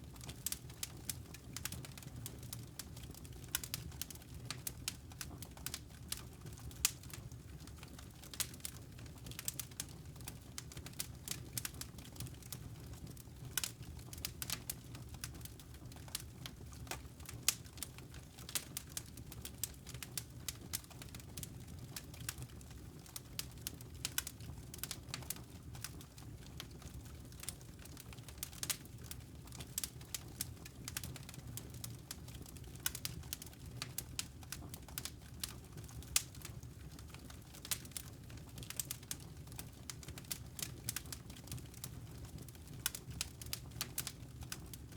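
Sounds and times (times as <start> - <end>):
low steady fire rumble: 0.0 - 44.9
wood fire snaps and pops: 0.1 - 44.9.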